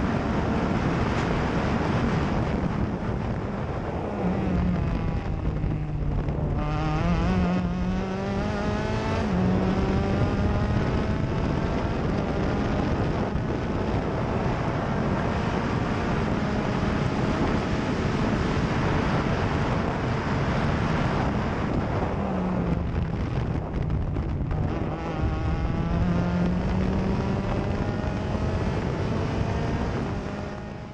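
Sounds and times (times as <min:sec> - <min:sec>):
wind buffeting cockpit: 0:00.0 - 0:30.9
race car engine revving: 0:03.7 - 0:30.9.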